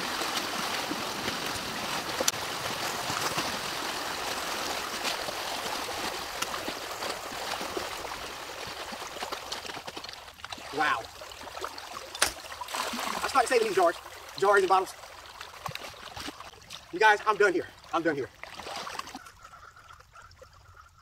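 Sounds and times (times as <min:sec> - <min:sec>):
water gushing: 0:00.0 - 0:19.1.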